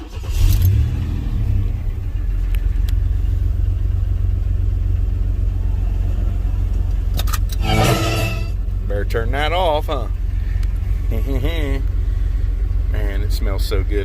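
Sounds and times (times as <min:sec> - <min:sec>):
engine idling: 0:01.6 - 0:14.0.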